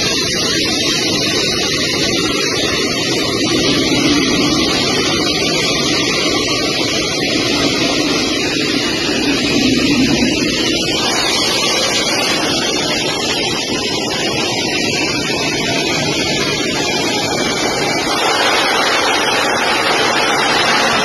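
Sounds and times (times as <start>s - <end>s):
jet engine roar in cabin: 0.0s - 21.0s.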